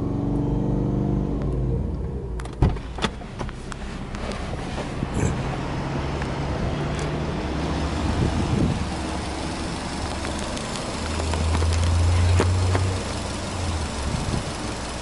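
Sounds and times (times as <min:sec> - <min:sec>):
car engine idling: 0:02.2 - 0:15.0.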